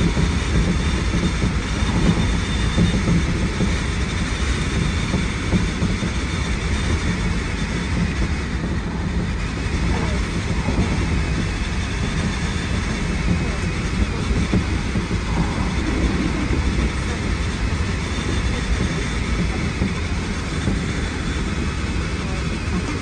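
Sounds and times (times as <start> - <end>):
electric train rumble and hum: 0.0 - 23.0.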